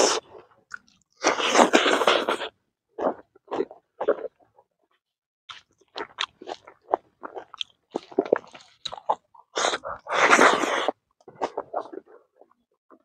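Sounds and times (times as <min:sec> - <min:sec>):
man chewing and smacking lips: 0:00.0 - 0:04.7, 0:05.5 - 0:13.0.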